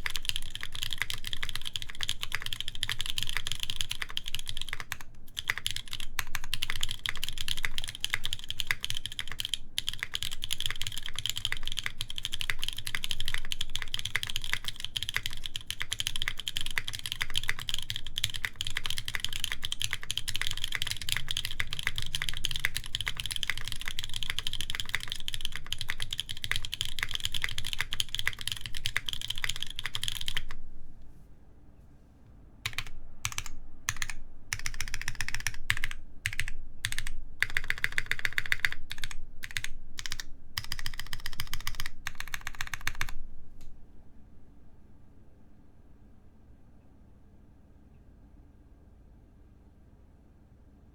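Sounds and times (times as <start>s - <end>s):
typing on mechanical keyboard: 0.0s - 30.6s, 32.6s - 43.2s.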